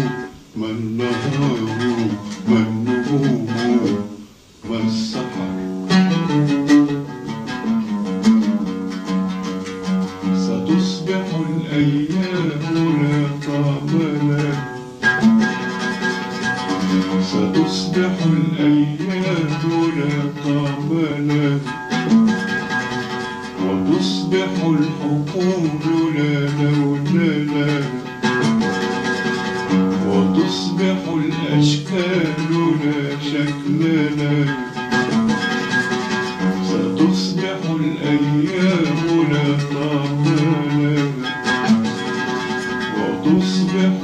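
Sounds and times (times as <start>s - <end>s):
oud melody: 0.0s - 44.0s.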